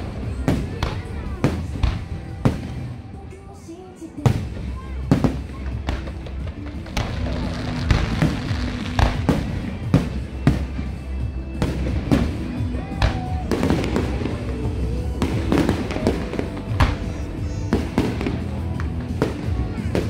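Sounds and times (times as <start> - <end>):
fireworks bursting: 0.0 - 20.0
music playing: 0.0 - 20.0.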